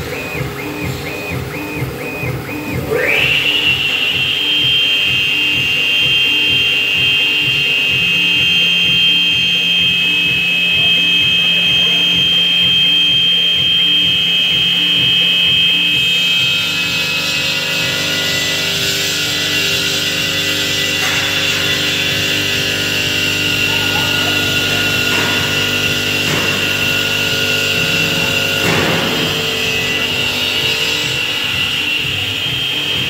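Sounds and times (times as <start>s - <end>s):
engraving spindle whine: 0.0s - 33.0s.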